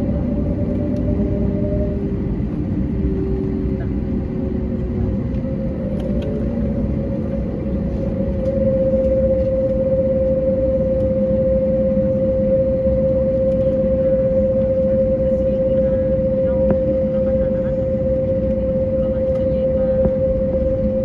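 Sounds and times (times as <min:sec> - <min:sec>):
jet engines rumbling from cabin: 0:00.0 - 0:21.0.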